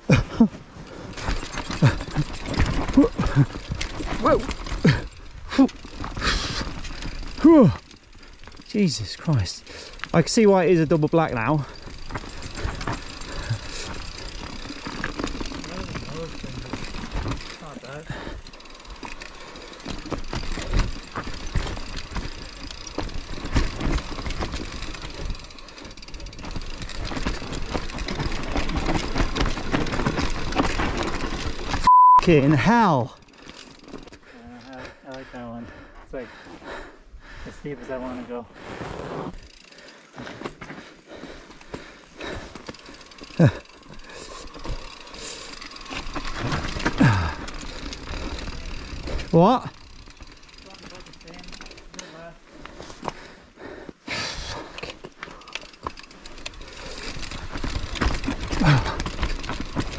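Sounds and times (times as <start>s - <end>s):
bike tyres on dirt: 0.0s - 36.8s, 37.4s - 59.9s
bike knocking and rattling: 0.7s - 31.9s, 39.3s - 53.4s, 54.4s - 59.9s.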